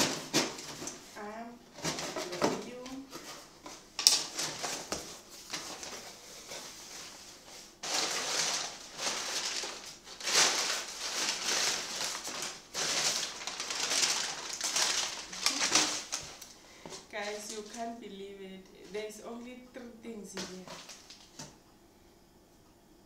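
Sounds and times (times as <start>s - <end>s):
packing paper rustling: 0.0s - 1.2s, 1.8s - 18.0s, 20.4s - 21.5s.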